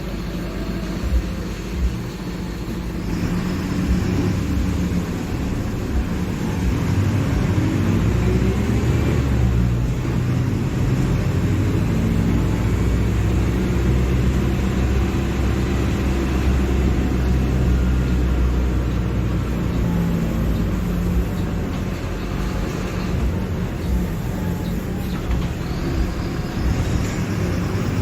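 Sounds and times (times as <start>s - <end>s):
diesel bus engine running: 0.0s - 28.0s.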